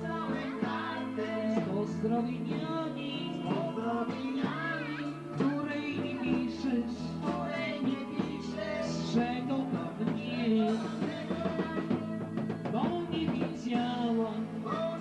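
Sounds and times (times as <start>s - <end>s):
person singing: 0.0s - 15.0s
steady drum beat: 0.0s - 15.0s.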